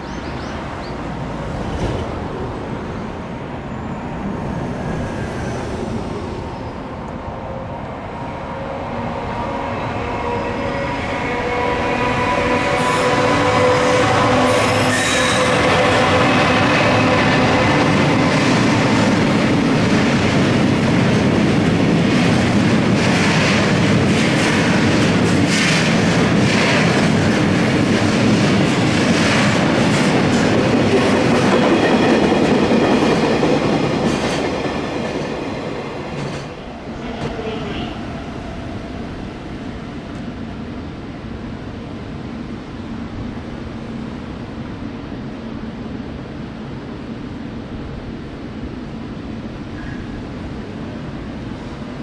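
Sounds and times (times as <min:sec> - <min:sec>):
distant train: 0:00.0 - 0:52.0
freight train rumbling past: 0:00.0 - 0:52.0.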